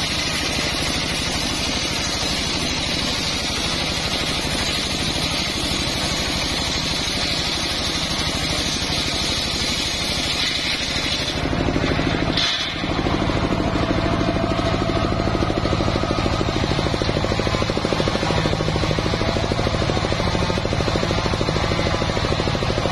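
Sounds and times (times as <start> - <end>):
circular saw blade cutting log: 0.0 - 22.9
engine steady rapid pulse: 0.0 - 22.9.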